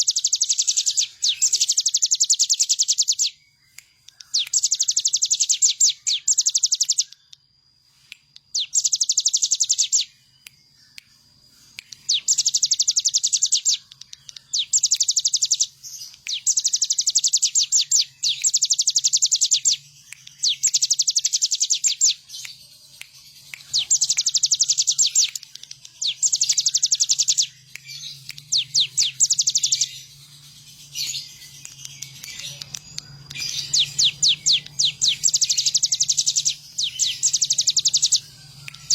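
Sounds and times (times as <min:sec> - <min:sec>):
prinia rapid high chirping: 0:00.0 - 0:38.9.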